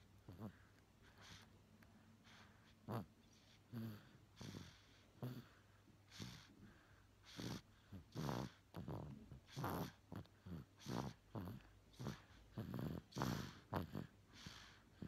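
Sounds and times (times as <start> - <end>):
baby snoring: 0.2 - 1.5, 2.3 - 6.5, 7.2 - 15.0.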